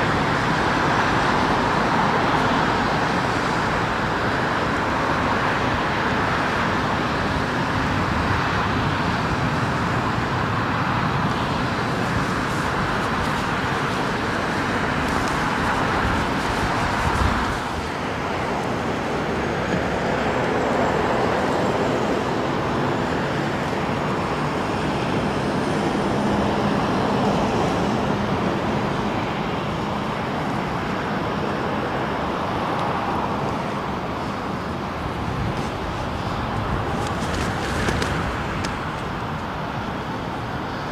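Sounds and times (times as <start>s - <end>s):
jet engine noise: 0.0s - 40.9s.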